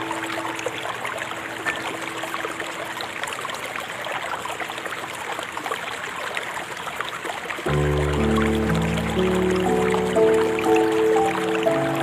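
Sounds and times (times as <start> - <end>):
river water babbling: 0.0 - 12.0.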